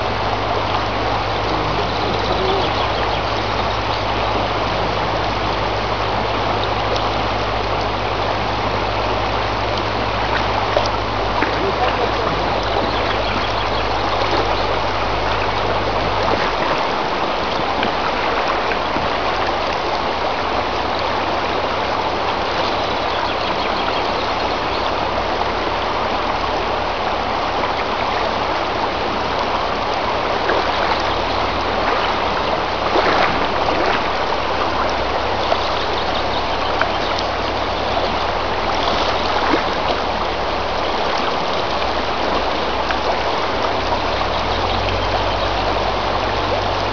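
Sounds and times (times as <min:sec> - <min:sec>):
river rushing: 0:00.0 - 0:46.9.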